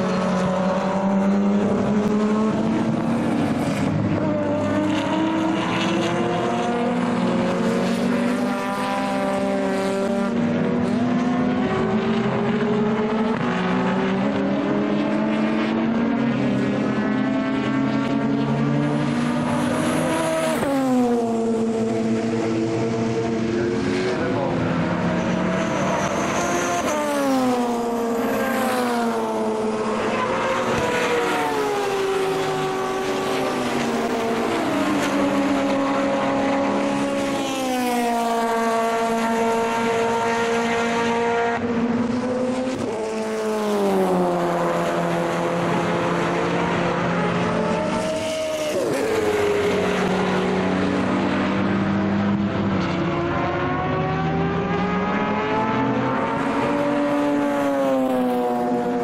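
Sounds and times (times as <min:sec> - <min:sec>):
racing car engine: 0:00.0 - 0:59.0.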